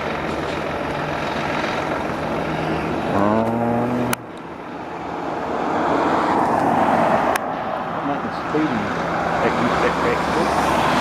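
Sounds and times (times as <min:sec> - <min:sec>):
outdoor noise: 0:00.0 - 0:11.0
rushing noise: 0:00.0 - 0:11.0
truck engine revving: 0:00.0 - 0:11.0.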